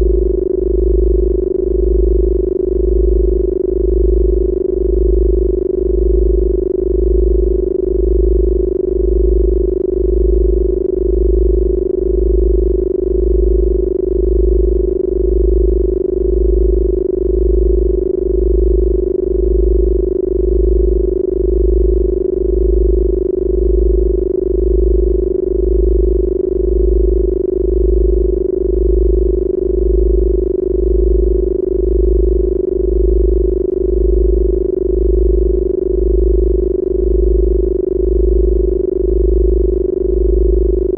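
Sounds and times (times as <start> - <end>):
deep pulsing low tone: 0.0 - 40.9
steady mid-pitched tone: 0.0 - 40.9.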